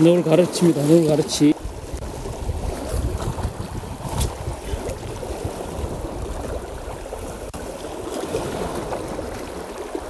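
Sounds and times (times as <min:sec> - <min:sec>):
sea water sloshing and splashing: 0:00.0 - 0:10.0
wind rumbling on microphone: 0:00.0 - 0:10.0.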